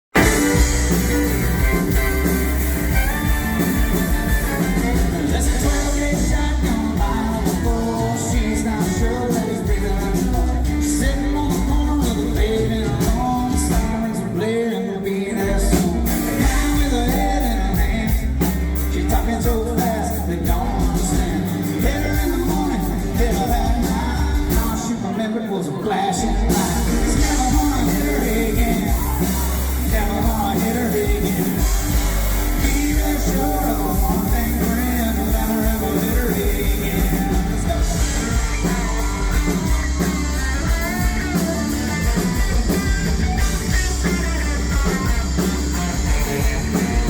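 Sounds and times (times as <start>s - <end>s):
country-rock band playing: 0.1s - 47.0s
person singing lead: 0.2s - 47.0s.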